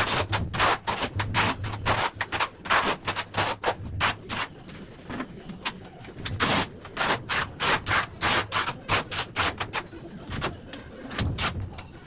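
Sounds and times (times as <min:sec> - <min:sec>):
trowel scraping tile: 0:00.0 - 0:04.7, 0:06.2 - 0:11.8.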